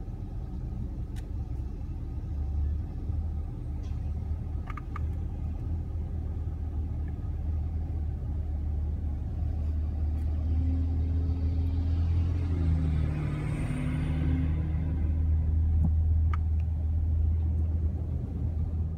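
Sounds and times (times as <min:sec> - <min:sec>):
low rumble inside car: 0:00.0 - 0:18.9.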